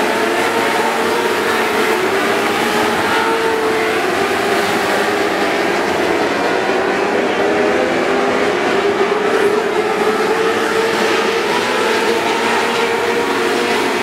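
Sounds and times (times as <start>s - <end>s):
racing car engines droning: 0.0s - 14.0s.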